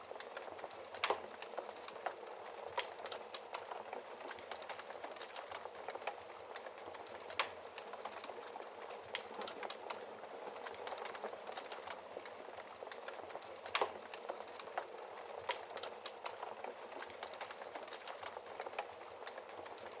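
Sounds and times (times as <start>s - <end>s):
wood fire crackling: 0.0s - 20.0s
fire popping: 0.2s - 19.9s.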